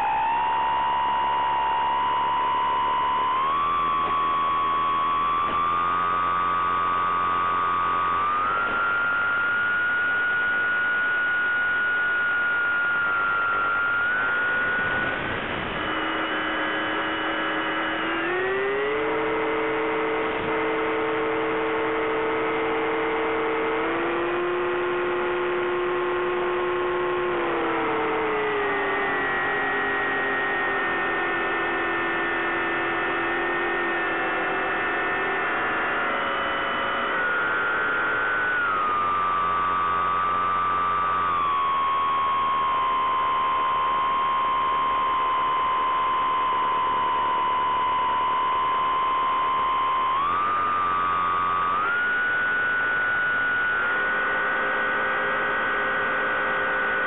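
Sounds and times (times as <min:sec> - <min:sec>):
electric motor and propeller humming: 0:00.0 - 0:57.0.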